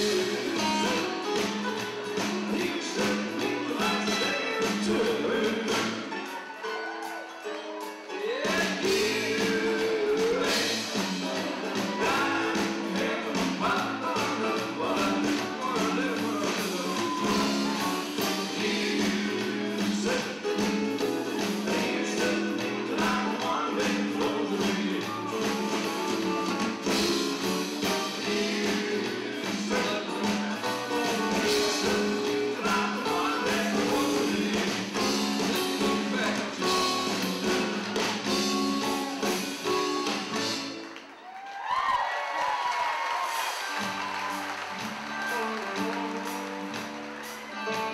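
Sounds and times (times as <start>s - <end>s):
person singing: 0.0s - 40.6s
live band playing: 0.0s - 41.5s, 42.6s - 47.9s.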